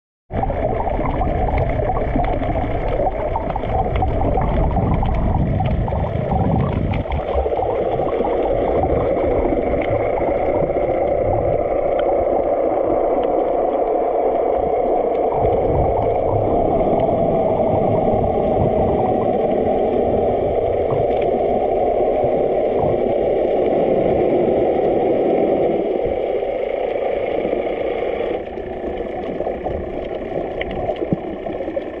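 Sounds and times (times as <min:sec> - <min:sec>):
muffled underwater droning: 0:00.3 - 0:32.0.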